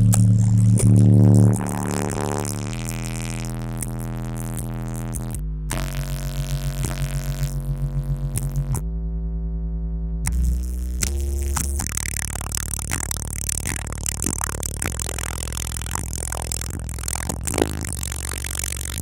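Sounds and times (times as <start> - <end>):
bass-heavy hip-hop through subwoofers: 0.0 - 19.0.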